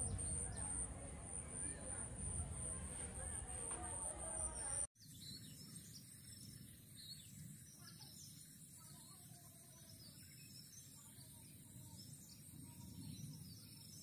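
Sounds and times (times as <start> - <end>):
distant bird chirps: 0.0 - 14.0
low steady background noise: 0.0 - 14.0.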